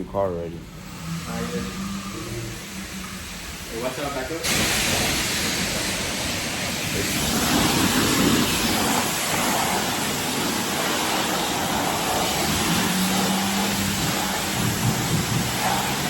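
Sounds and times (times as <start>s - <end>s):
high-pressure water spray hissing: 0.7s - 16.0s.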